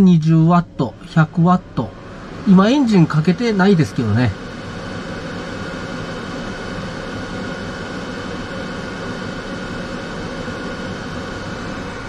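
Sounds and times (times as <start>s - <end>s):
fan noise with faint whine: 0.0s - 12.0s.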